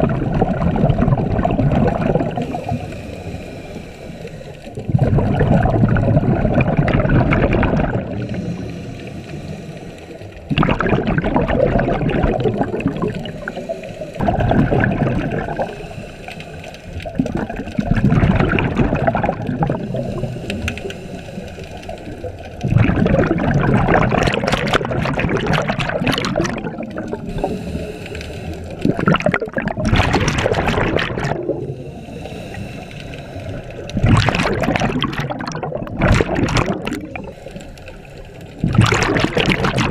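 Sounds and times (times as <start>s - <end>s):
underwater regulator bubbles gurgling: 0.0s - 39.9s.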